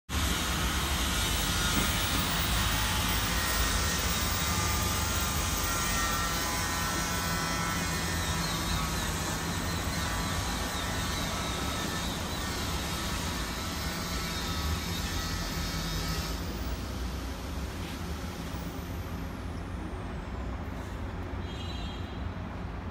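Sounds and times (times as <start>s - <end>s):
mechanical drone with high whine: 0.1s - 20.7s.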